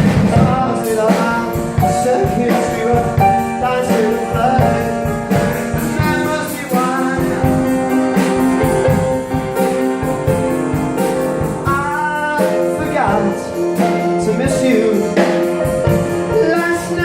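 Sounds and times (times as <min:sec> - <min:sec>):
guitar: 0:00.0 - 0:17.0
steady drum beat: 0:00.0 - 0:17.0.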